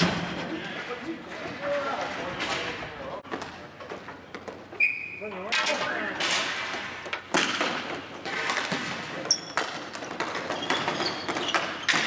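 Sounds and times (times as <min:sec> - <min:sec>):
hockey sticks and ball clacking: 0:00.0 - 0:12.0.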